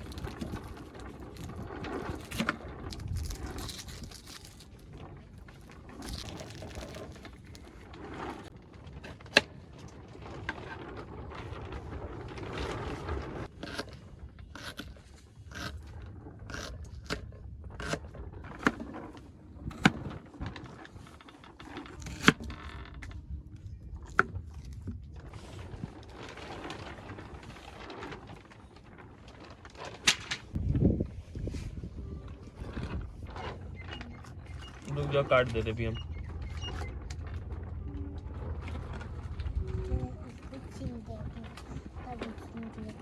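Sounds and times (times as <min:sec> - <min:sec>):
scraping and rustling of handling: 0:00.0 - 0:43.0.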